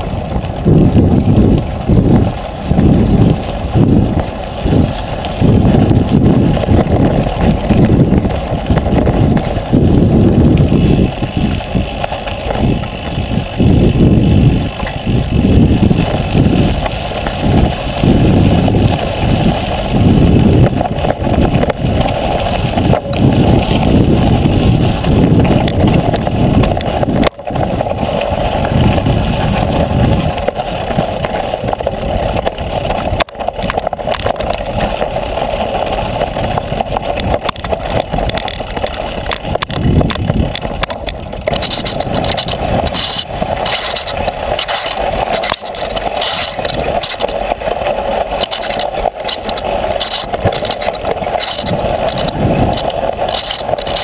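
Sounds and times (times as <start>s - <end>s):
bicycle tyres rumbling on gravel: 0.0s - 54.0s
fast rattling patter: 0.0s - 54.0s
wind buffeting microphone: 0.0s - 54.0s.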